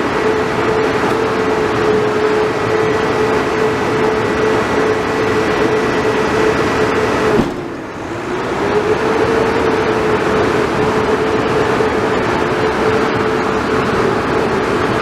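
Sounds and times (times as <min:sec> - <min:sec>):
garbage truck diesel engine whine: 0:00.0 - 0:15.0.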